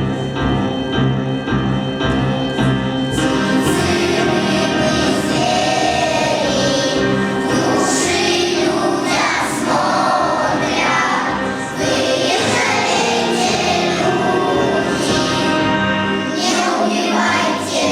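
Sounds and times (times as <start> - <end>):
children's choir singing: 0.0 - 17.9
musical accompaniment: 0.0 - 17.9.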